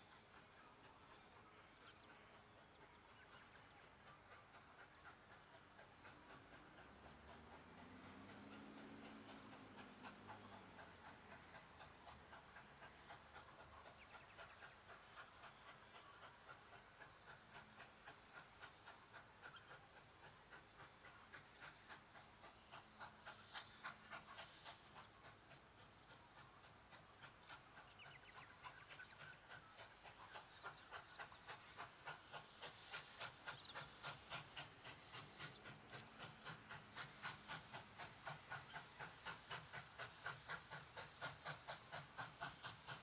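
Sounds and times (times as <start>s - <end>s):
steam locomotive exhaust beats: 0.0s - 43.0s.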